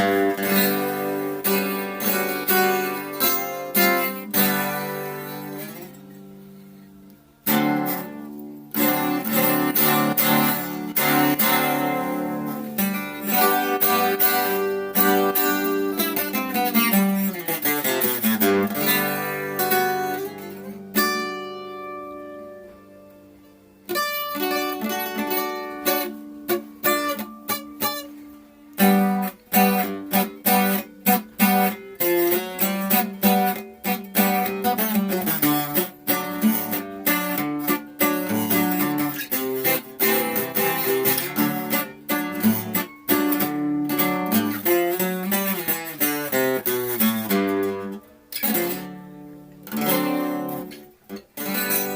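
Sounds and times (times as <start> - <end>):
acoustic guitar strumming: 0.0 - 51.9.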